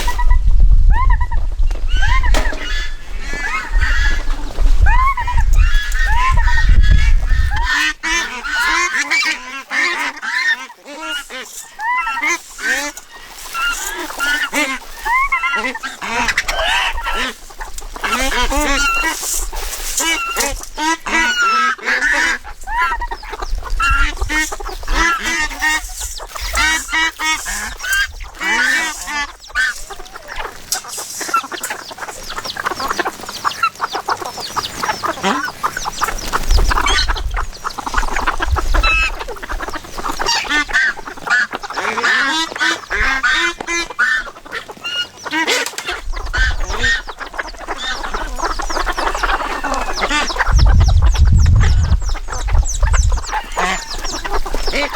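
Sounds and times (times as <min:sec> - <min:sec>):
poultry squawking and honking: 0:01.9 - 0:54.9.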